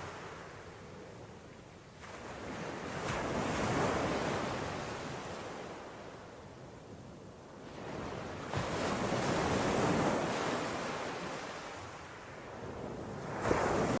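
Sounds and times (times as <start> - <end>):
waves breaking on beach: 0.0 - 6.5, 7.6 - 14.0.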